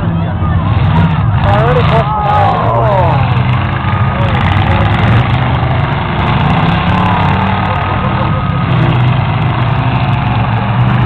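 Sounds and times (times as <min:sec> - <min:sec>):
car engines running loud: 0:00.0 - 0:11.0
crowd chatter: 0:00.0 - 0:11.0.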